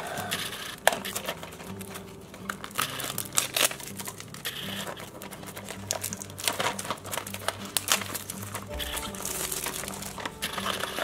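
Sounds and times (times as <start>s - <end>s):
cardboard box crinkling and tearing: 0.7s - 11.0s.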